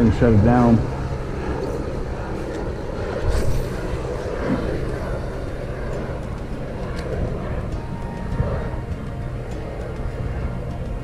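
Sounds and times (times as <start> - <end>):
aircraft engine drone: 0.0 - 11.0
wind on microphone: 0.0 - 11.0.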